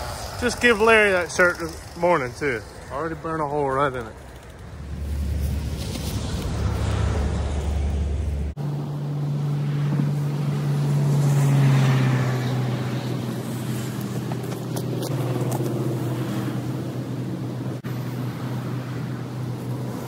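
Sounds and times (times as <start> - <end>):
tractor engine running: 0.0 - 11.3, 12.7 - 17.9.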